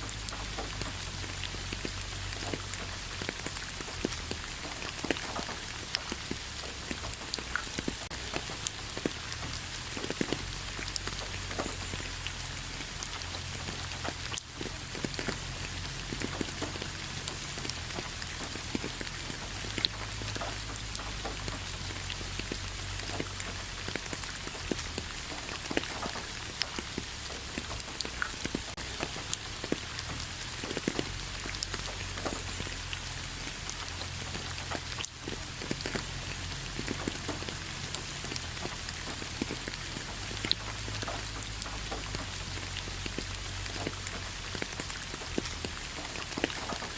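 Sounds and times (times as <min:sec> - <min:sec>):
raindrops ticking: 0:00.0 - 0:46.9
steady rain: 0:00.0 - 0:46.9.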